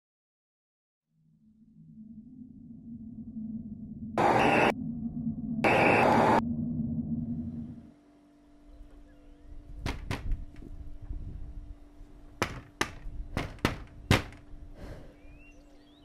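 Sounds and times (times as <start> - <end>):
steady low hum: 1.5 - 16.0.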